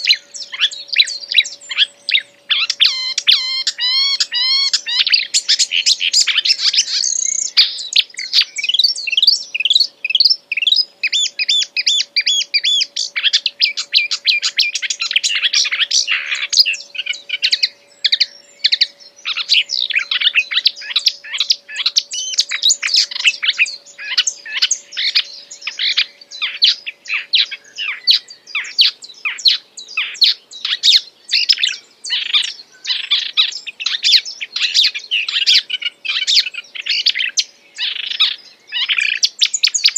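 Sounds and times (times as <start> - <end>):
faint steady hum: 0.0 - 39.9
songbird singing chirps and trills: 0.0 - 39.9.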